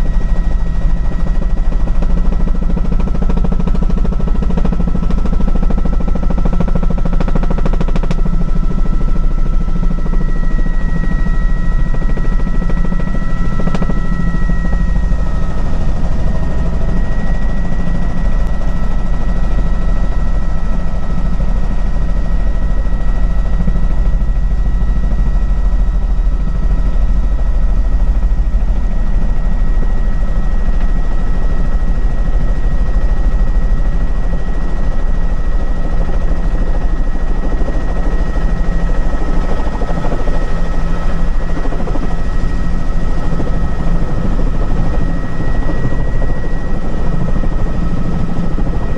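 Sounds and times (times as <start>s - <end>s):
helicopter rotor chop: 0.0s - 48.9s
turbine whine: 0.0s - 48.9s.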